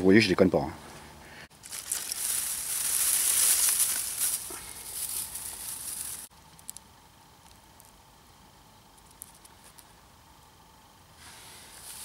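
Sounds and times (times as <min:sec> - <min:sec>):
campfire lighting hiss: 0:01.5 - 0:12.0.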